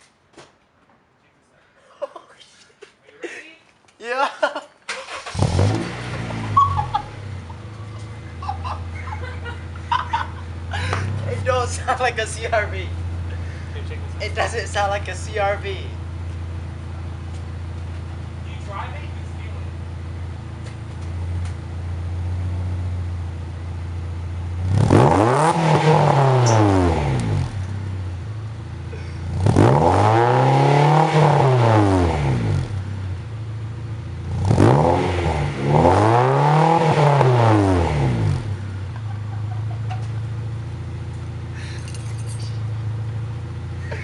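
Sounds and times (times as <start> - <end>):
car engine idling and revving: 5.0 - 44.0.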